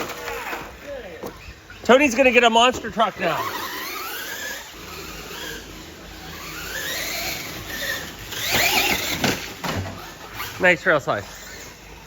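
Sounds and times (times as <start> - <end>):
toy truck electric motors whining: 0.0 - 12.0.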